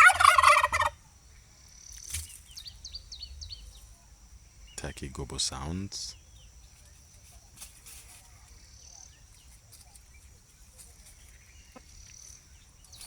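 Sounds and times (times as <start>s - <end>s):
soft bird chirps: 1.3s - 13.0s.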